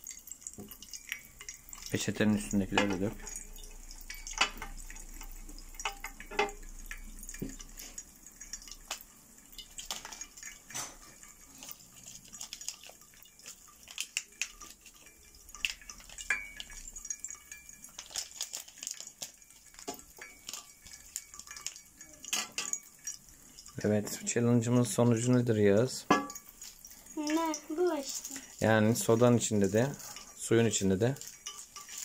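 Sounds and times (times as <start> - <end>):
popping candy crackling: 0.0 - 32.0.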